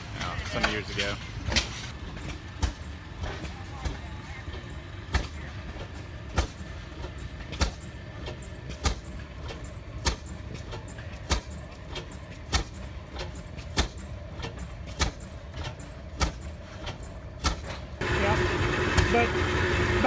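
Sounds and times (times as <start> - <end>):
low engine rumble: 0.0 - 17.1, 17.9 - 20.0
stationary engine exhaust bangs: 0.0 - 20.0
faint engine knocks: 0.2 - 20.0.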